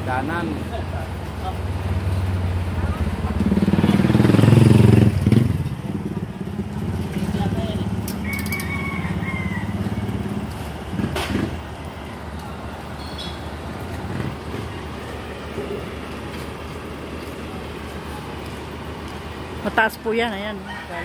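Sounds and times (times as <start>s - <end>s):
low traffic hum: 0.0s - 21.0s
traffic rush: 0.0s - 21.0s
vehicle engine humming: 0.0s - 21.0s.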